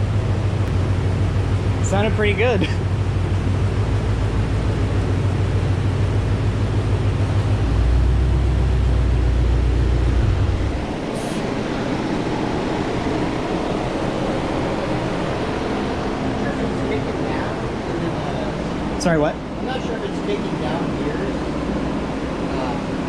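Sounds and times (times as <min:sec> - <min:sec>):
constant rushing noise: 0:00.0 - 0:23.0
engine rumble on dyno: 0:00.0 - 0:23.0.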